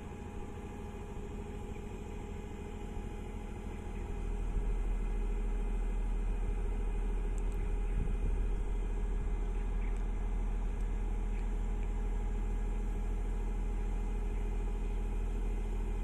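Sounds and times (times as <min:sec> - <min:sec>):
diesel excavator engine droning: 0:00.0 - 0:16.0.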